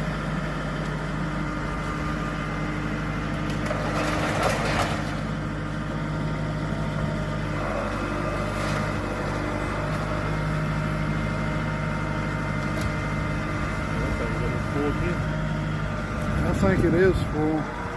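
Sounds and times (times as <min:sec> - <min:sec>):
heavy machinery engine running: 0:00.0 - 0:17.9
rough noise from debris work: 0:00.0 - 0:17.9.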